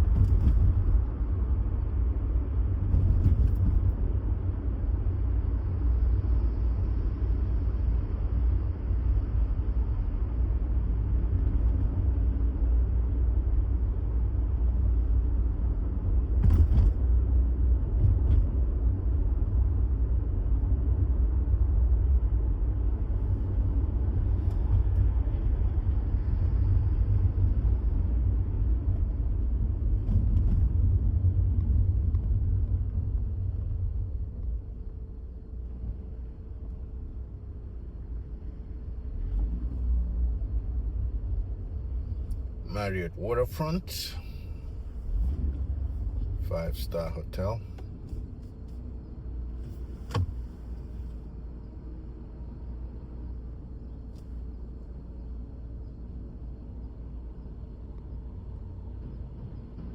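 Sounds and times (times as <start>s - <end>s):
car rumbling in motion: 0.0s - 59.9s.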